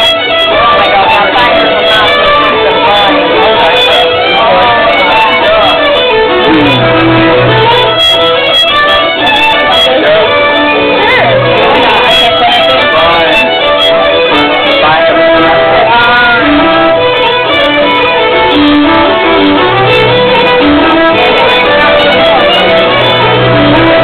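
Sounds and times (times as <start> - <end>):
fiddle playing fast tune: 0.0 - 24.0
pub chatter: 0.0 - 24.0
steady accompaniment: 0.0 - 24.0.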